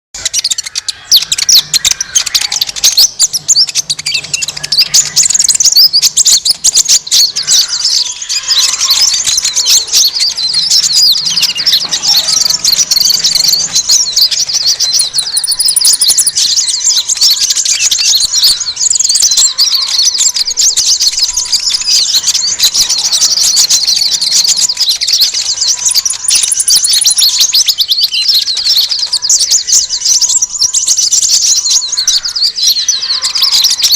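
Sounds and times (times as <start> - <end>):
small birds chirping and twittering: 0.1 - 33.9.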